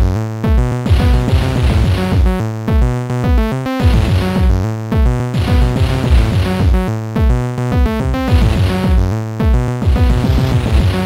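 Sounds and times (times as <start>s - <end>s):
drum machine beat: 0.0s - 11.0s
electronic synthesizer music: 0.0s - 11.0s.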